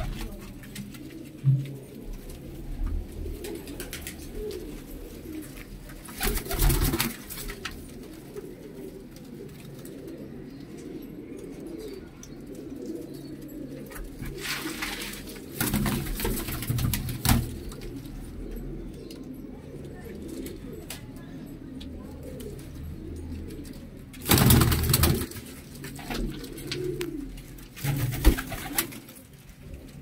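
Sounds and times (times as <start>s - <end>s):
pigeons cooing: 0.0s - 30.0s.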